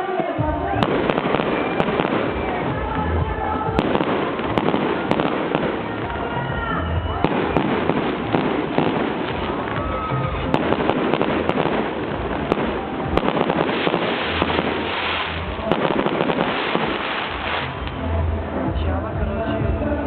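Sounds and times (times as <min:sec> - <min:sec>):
fireworks crackling and popping: 0:00.0 - 0:18.2
music playing: 0:00.0 - 0:20.0.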